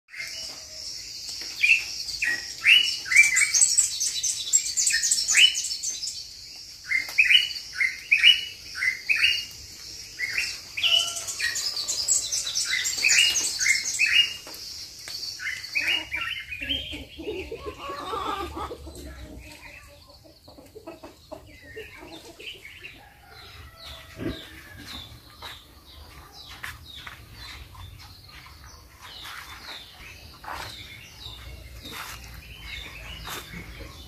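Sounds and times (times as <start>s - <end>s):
birds chirping: 0.1s - 34.0s.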